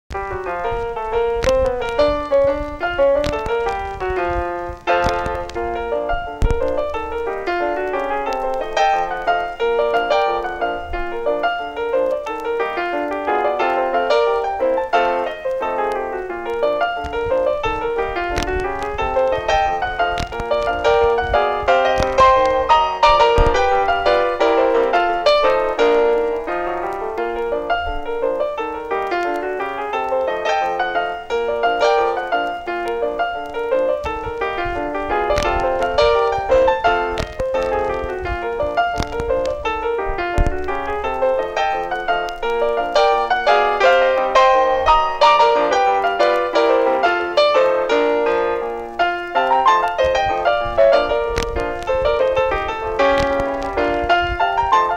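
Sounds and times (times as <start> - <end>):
piano music with quick runs: 0.1 - 54.9.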